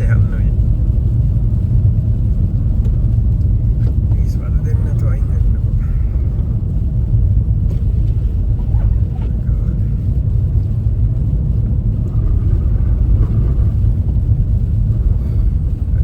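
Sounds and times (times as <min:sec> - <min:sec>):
car driving on snow: 0:00.0 - 0:16.0.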